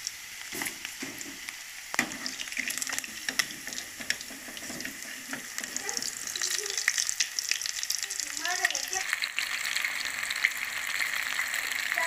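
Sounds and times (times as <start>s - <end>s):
deep-frying sizzle with pops: 0.0s - 12.0s.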